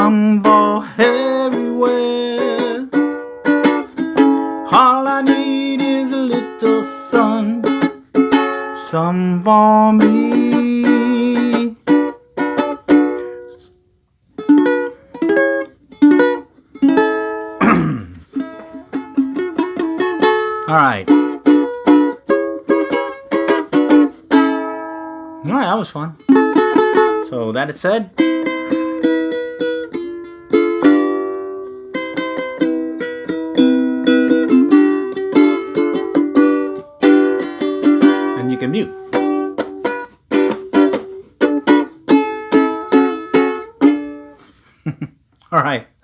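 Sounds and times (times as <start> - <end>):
ukulele chords strummed: 0.0 - 13.7, 14.4 - 44.6.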